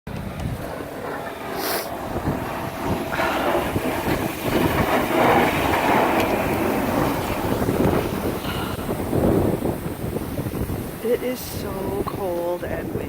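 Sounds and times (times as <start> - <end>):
strong wind buffeting microphone: 0.1 - 13.0.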